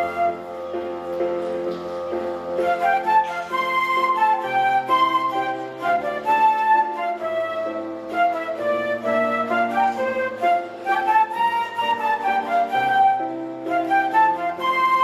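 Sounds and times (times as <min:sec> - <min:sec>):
school orchestra playing: 0:00.0 - 0:15.0.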